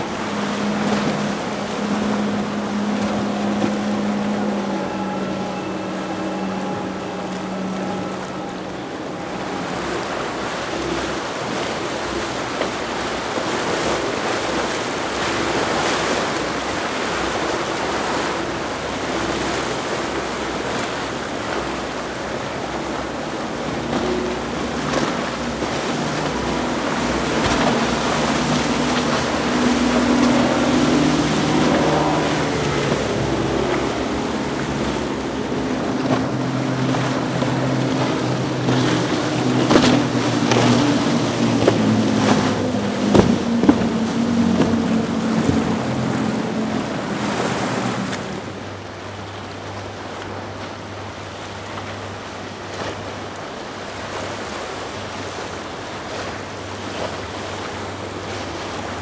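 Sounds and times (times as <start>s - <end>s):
outboard engine drone: 0.0s - 59.0s
water rushing against boat hull: 0.0s - 59.0s.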